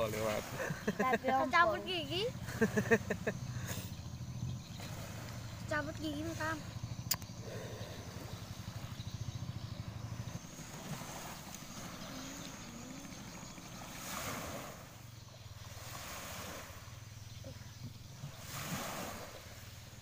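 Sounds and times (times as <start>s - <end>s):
small waves washing on shore: 0.0s - 20.0s
wind rumbling on microphone: 1.5s - 20.0s.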